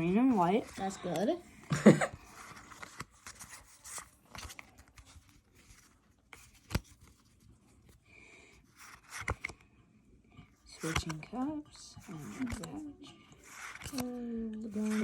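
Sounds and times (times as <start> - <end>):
cards and wrappers rustling: 0.0 - 9.8, 10.4 - 15.0.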